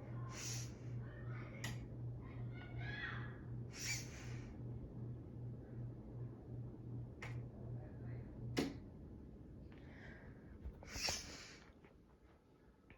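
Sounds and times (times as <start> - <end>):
ceiling fan motor humming: 0.0 - 11.7.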